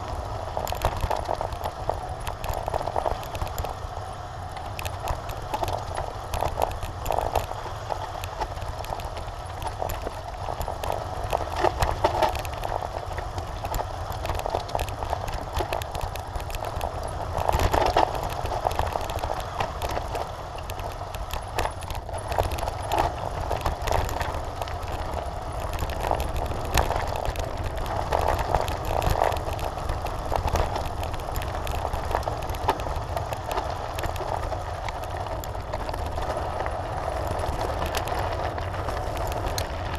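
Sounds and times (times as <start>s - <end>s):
bike rattling over stones: 0.0s - 39.9s
tyres crunching on gravel: 0.0s - 39.9s.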